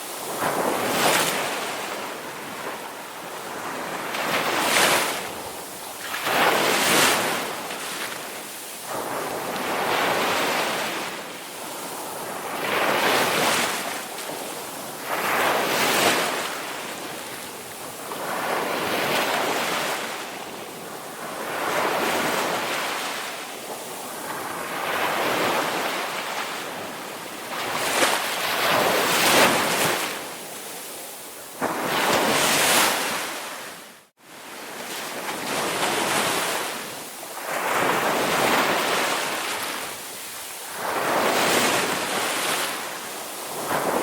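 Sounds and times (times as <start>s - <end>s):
ocean waves washing ashore: 0.0s - 44.0s.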